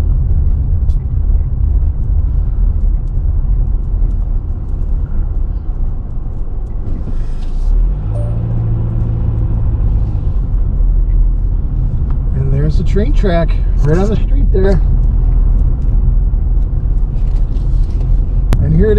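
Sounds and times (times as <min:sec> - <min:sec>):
car engine and tyres rumbling: 0:00.0 - 0:18.9.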